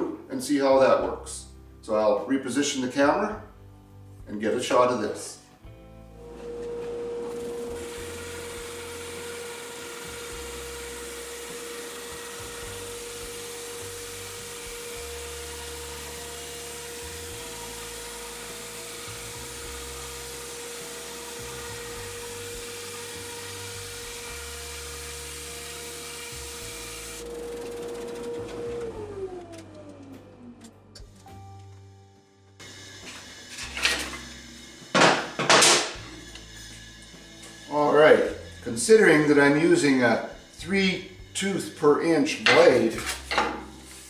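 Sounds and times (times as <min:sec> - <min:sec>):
bandsaw whining while cutting wood: 0:06.2 - 0:30.7, 0:32.6 - 0:44.0.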